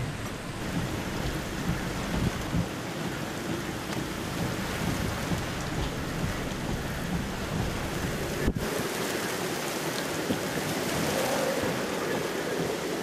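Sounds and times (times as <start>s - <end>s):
wind and rain rushing: 0.0s - 13.0s
wind buffeting microphone: 0.0s - 13.0s.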